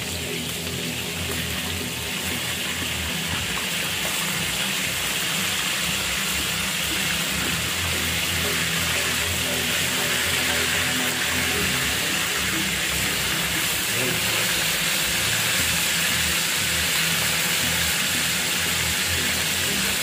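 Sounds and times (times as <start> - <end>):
background music: 0.0 - 20.0
chicken sizzling in oil: 0.0 - 20.0.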